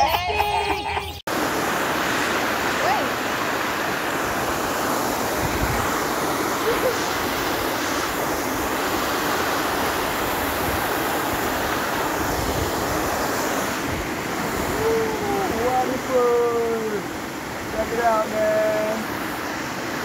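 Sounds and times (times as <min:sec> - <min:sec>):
wind buffeting microphone: 0:00.0 - 0:20.0
river rushing over rocks: 0:01.3 - 0:20.0.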